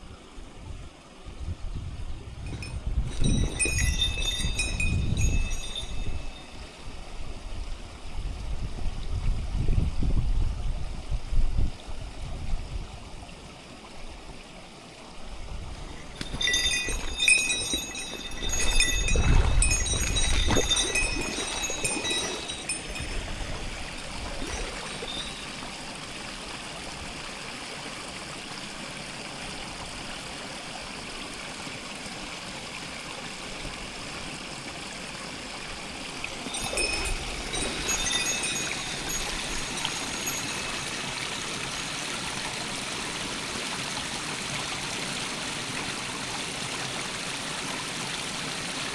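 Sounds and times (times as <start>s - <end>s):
stream flowing over rocks: 2.5s - 8.4s, 13.0s - 48.9s.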